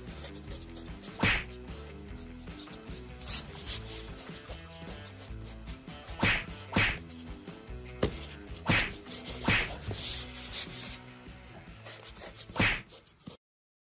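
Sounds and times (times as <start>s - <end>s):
claws scratching on cardboard: 0.0s - 11.0s, 11.7s - 13.4s
soft background music: 0.0s - 13.4s.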